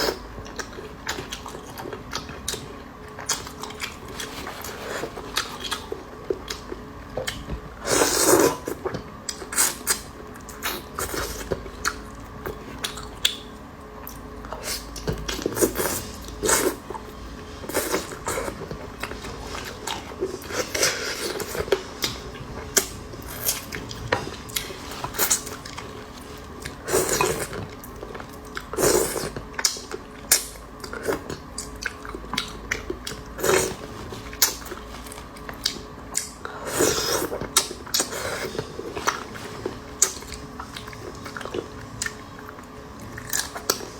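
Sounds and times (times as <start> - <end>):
chewing and biting: 0.0 - 43.9.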